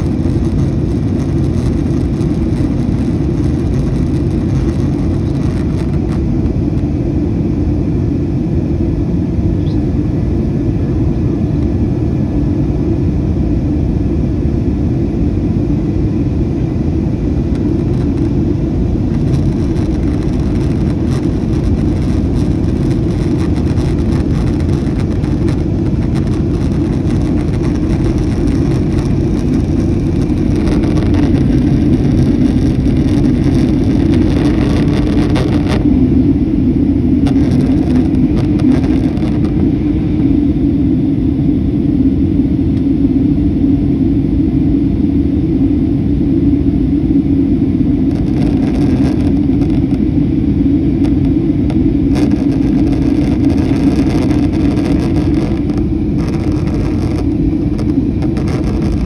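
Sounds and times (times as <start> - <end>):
airliner cabin roar: 0.0 - 59.0
faint thin whine: 0.0 - 59.0.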